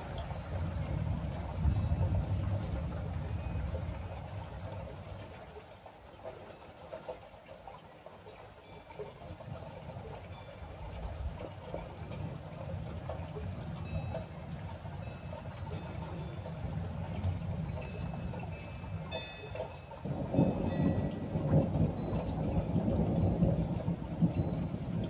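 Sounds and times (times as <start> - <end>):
rain falling: 0.0 - 25.0
water trickling and splashing: 0.0 - 25.0.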